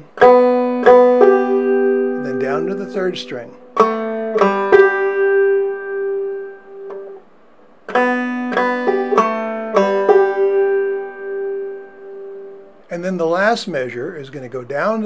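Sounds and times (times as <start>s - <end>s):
banjo picking: 0.0s - 7.2s, 7.8s - 13.5s.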